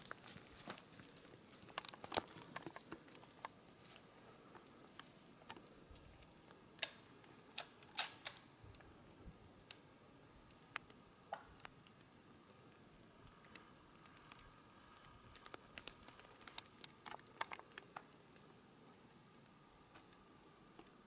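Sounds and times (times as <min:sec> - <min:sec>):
faint sharp clicks and ticks: 0:00.0 - 0:21.0.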